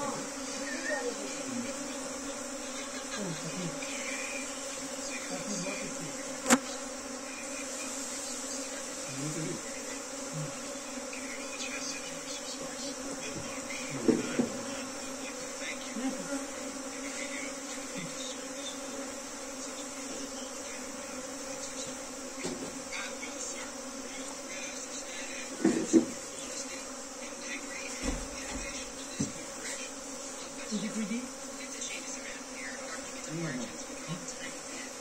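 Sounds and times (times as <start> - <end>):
bee swarm buzzing: 0.0 - 35.0.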